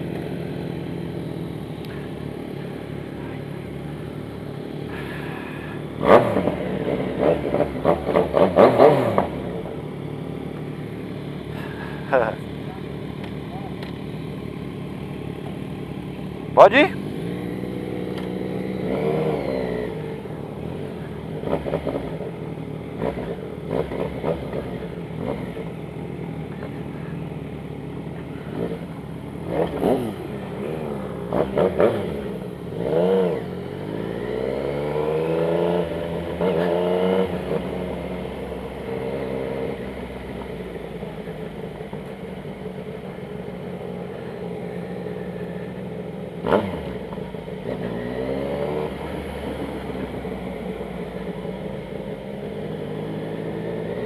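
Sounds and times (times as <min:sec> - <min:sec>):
motorcycle engine idling: 0:00.0 - 0:08.6, 0:09.2 - 0:34.3, 0:37.3 - 0:48.0, 0:48.9 - 0:54.0
motorcycle engine revving: 0:00.0 - 0:54.0.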